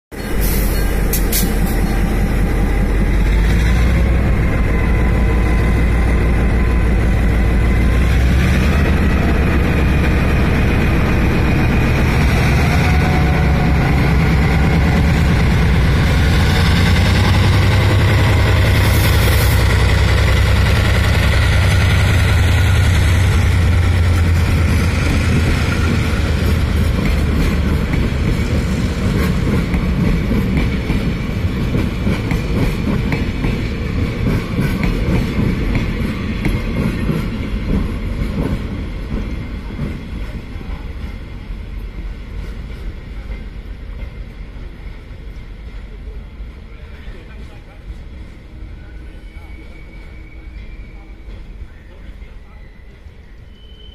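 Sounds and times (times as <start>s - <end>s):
diesel locomotive engine drone: 0.1s - 53.8s.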